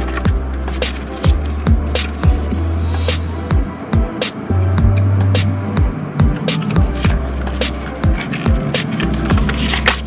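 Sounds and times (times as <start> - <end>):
hip-hop beat: 0.0 - 10.0.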